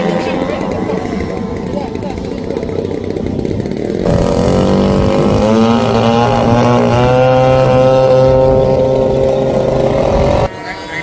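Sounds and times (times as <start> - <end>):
model airplane motor revving: 0.0 - 11.0.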